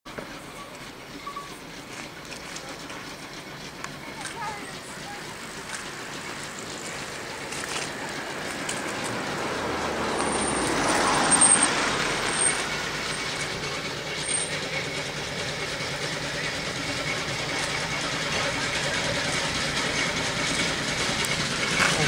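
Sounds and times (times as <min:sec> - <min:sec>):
steam road engine running: 0:00.0 - 0:22.0.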